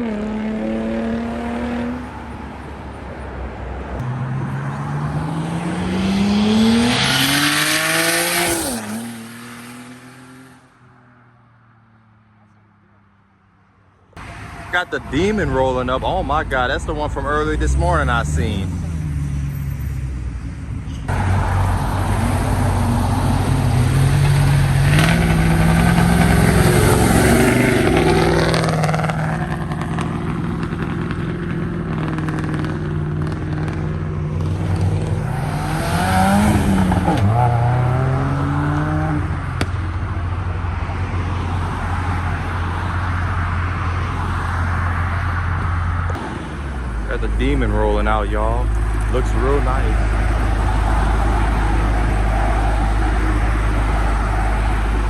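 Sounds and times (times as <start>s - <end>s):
car engine revving: 0.0s - 2.3s, 4.0s - 10.6s, 14.2s - 55.0s.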